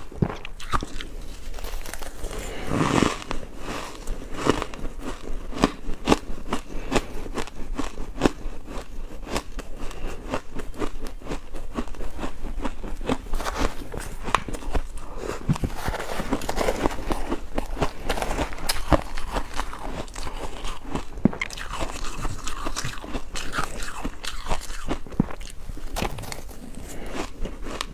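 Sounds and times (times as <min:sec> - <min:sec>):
ice being chewed: 0:00.0 - 0:27.9.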